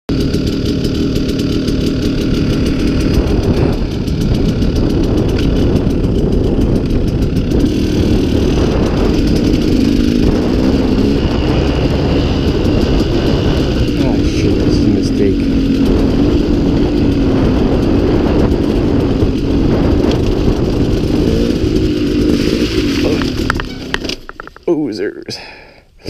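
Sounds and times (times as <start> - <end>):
dirt bike engine revving: 0.1 - 24.6
wind rumble on microphone: 1.9 - 24.6.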